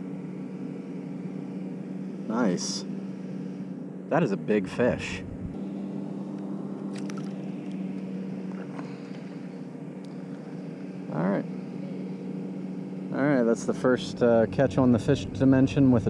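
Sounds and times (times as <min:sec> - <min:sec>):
engine hum: 0:00.0 - 0:16.0.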